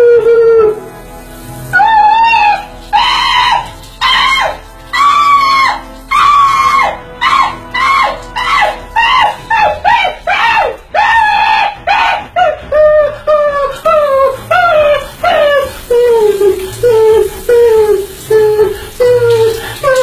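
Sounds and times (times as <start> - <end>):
man hooting in falsetto: 1.8 - 20.0.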